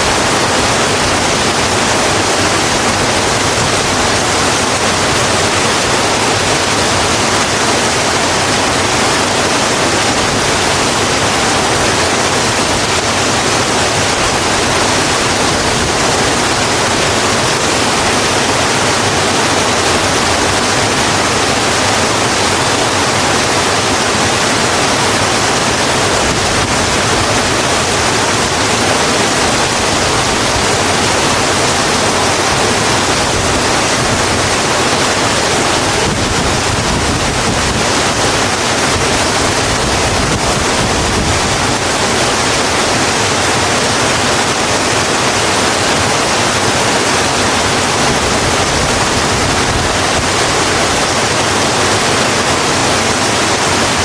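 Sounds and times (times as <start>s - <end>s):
heavy rain on a road: 0.0s - 54.0s.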